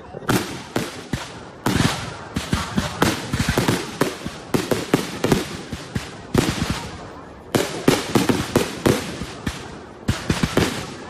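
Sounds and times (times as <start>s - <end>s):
fireworks bangs and bursts: 0.2s - 11.0s.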